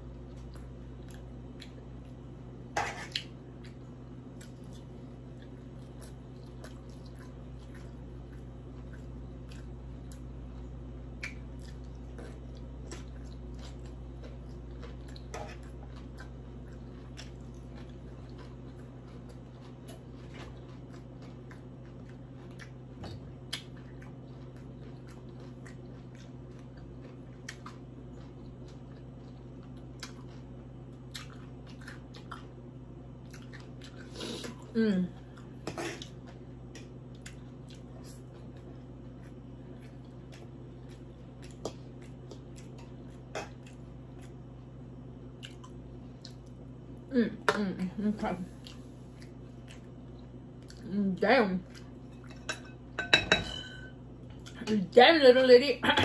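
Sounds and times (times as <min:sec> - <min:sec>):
chewing and mouth sounds: 0:00.1 - 0:02.3, 0:03.0 - 0:47.0, 0:48.5 - 0:50.9, 0:51.6 - 0:52.5.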